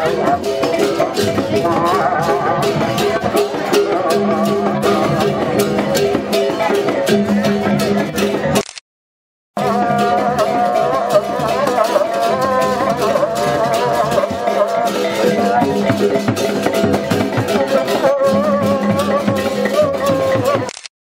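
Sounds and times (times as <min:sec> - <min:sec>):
drum strikes: 0:00.0 - 0:08.6, 0:09.6 - 0:20.7
gamelan procession music: 0:00.0 - 0:08.6, 0:09.6 - 0:20.7.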